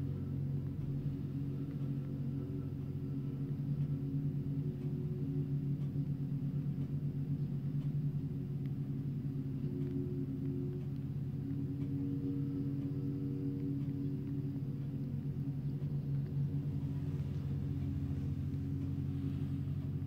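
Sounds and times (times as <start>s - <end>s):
road roller engine and vibrating drums: 0.0s - 20.0s.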